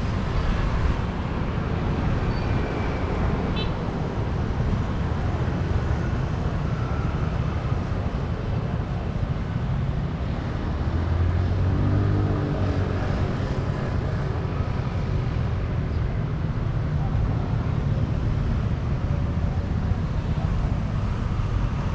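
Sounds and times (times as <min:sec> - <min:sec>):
traffic rumble: 0:00.0 - 0:21.9.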